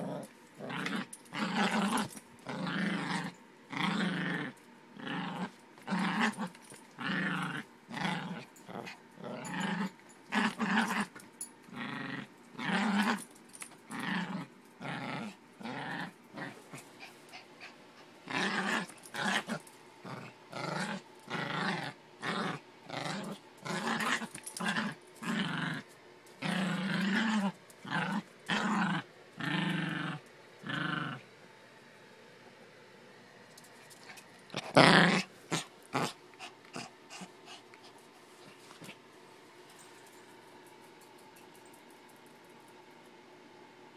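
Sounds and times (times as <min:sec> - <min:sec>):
small dog play-growling: 0:00.0 - 0:31.3, 0:33.6 - 0:39.1.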